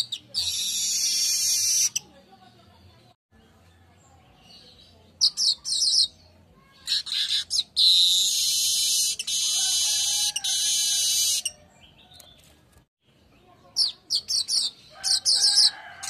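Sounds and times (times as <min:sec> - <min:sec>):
bird singing buzzy trill: 0:00.0 - 0:15.9.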